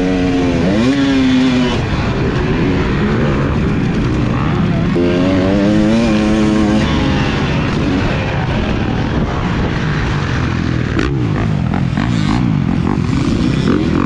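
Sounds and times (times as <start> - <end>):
motocross bike engine revving: 0.0 - 14.0
wind noise on microphone: 0.0 - 14.0.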